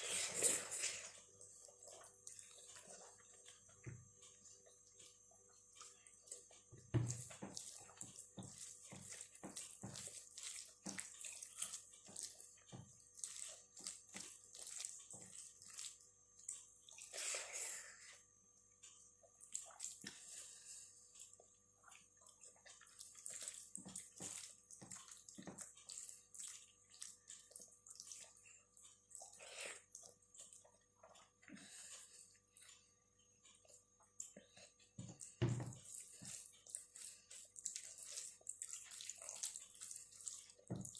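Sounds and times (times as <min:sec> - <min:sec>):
wet chewing and lip smacks: 0:00.3 - 0:17.2, 0:21.1 - 0:40.9.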